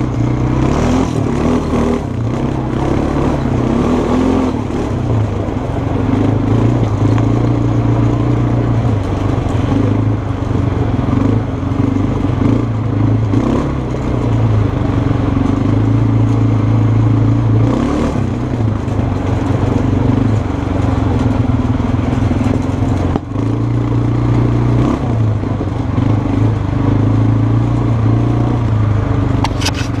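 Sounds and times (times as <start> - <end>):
quad bike engine running: 0.0 - 30.0.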